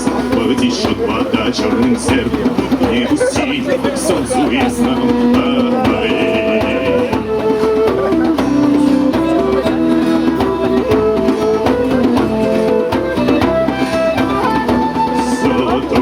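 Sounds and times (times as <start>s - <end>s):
band playing instrumental passage: 0.0s - 16.0s
person singing: 0.0s - 16.0s.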